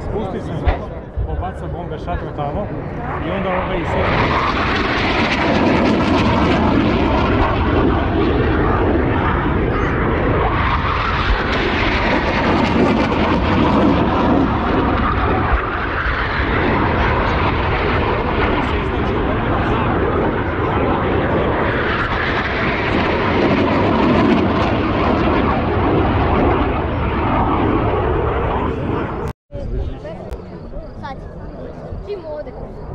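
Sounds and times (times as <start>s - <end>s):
aircraft flying over: 0.0s - 32.9s.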